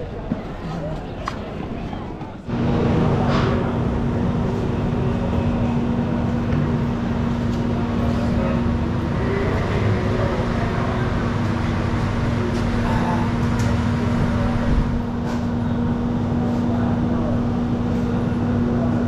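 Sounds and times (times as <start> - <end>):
ventilation fan humming: 0.0 - 19.0.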